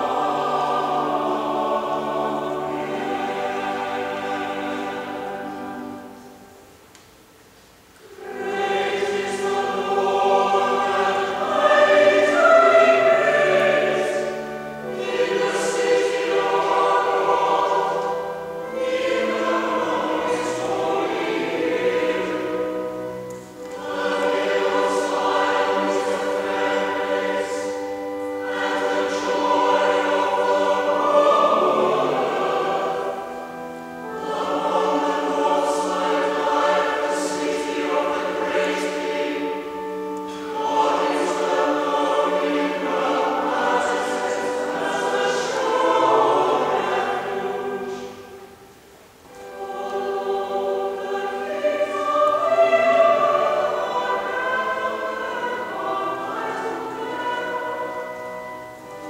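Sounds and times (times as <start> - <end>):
choir singing a chant: 0.0 - 6.4, 8.0 - 59.0.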